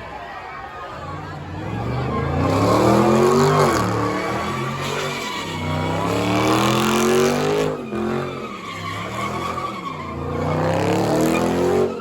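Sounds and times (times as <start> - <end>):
car engine revving hard: 1.4 - 12.0
tyre screech: 1.4 - 12.0.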